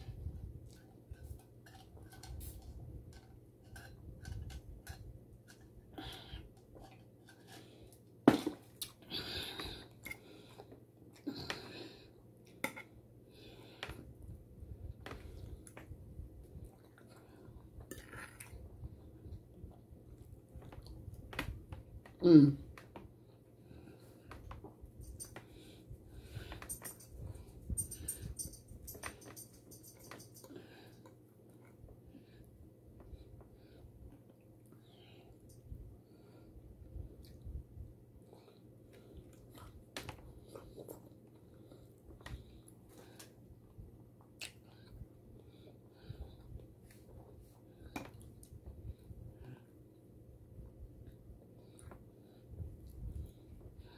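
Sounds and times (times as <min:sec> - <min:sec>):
soft chewing: 0:00.0 - 0:53.9.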